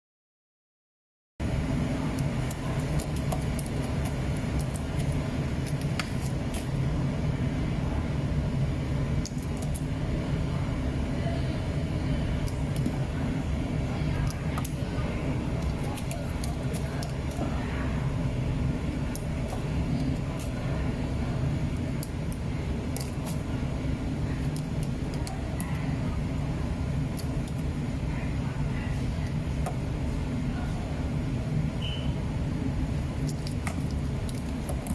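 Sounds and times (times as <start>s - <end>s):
drying machine humming: 1.4s - 34.9s.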